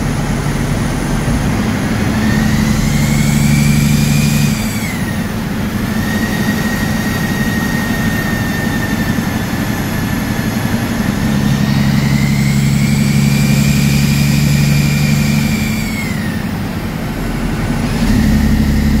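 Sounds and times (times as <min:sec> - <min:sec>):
high engine whine: 0:00.0 - 0:19.0
truck diesel engine running: 0:00.0 - 0:19.0.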